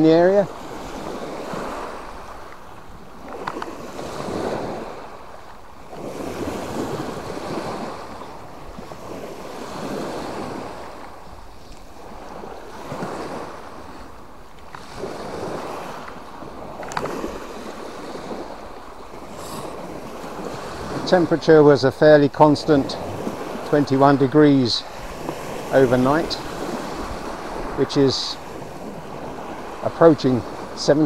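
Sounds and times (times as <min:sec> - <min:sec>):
small waves breaking on beach: 0:00.0 - 0:31.0.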